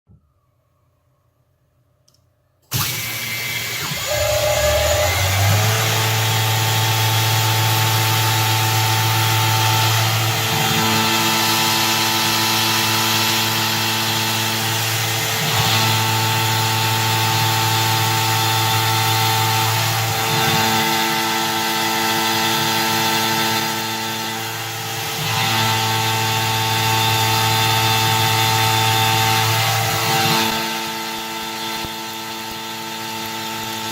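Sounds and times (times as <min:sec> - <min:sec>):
milling machine humming: 0:02.7 - 0:33.9.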